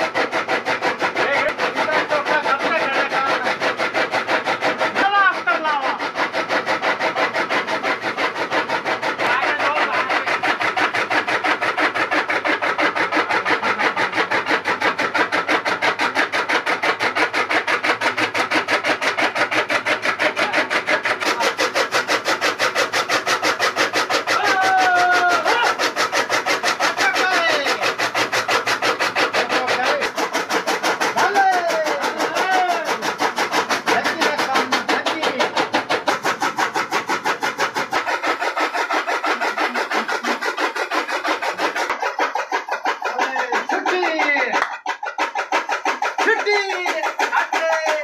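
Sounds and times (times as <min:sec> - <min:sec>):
electric motor running: 0:00.0 - 0:48.0
fodder cutter chopping: 0:00.0 - 0:48.0.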